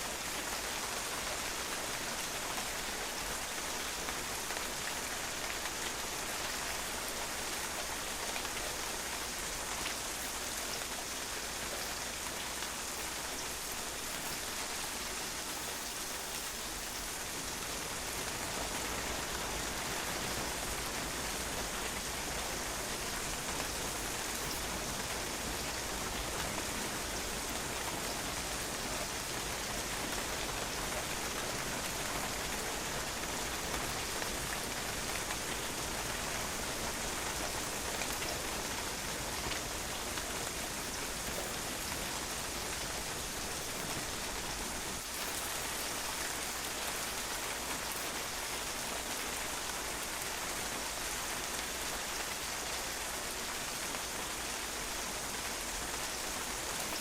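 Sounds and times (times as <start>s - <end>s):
rain splashing on a patio: 0.0s - 57.0s.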